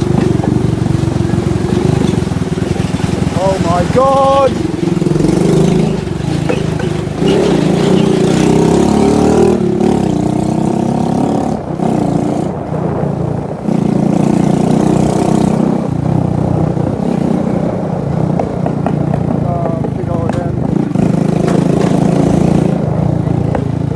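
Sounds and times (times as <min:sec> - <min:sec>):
motorbike engine running: 0:00.0 - 0:23.9.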